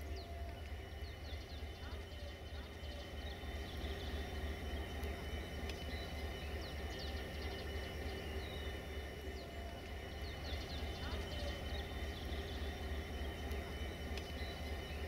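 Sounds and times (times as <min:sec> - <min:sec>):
birds chirping: 0:00.0 - 0:15.0
diesel train running: 0:00.0 - 0:15.0.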